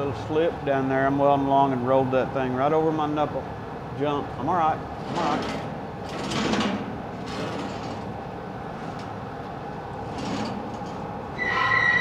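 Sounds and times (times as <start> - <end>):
workshop machinery running: 0.0 - 12.0.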